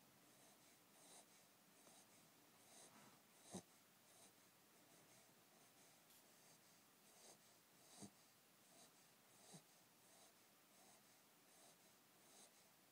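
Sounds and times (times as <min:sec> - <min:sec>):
puppy snoring: 0:00.3 - 0:04.4, 0:06.4 - 0:12.6.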